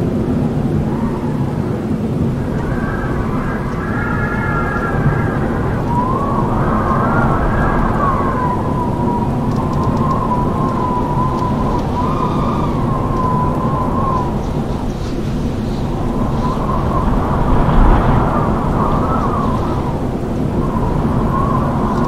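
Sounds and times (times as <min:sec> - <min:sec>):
howling wind: 0:00.0 - 0:22.0.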